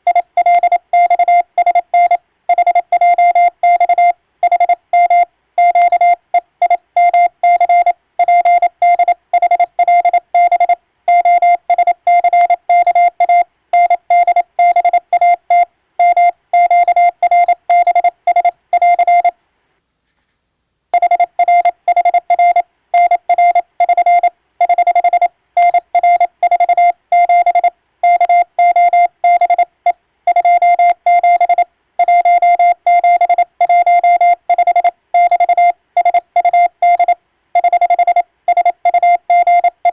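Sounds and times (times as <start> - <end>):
morse code beeps: 0.1 - 19.3, 21.0 - 39.9.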